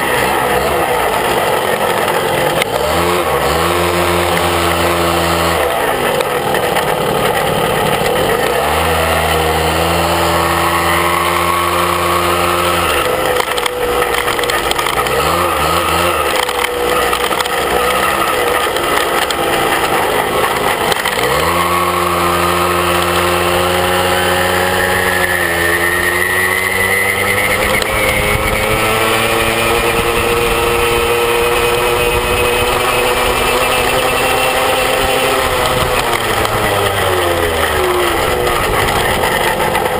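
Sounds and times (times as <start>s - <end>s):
moped engine running: 0.0s - 39.9s.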